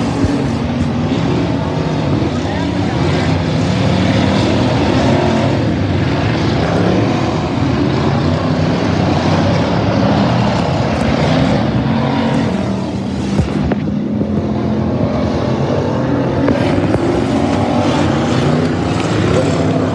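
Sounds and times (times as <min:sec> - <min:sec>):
race car engines running hard: 0:00.0 - 0:19.9.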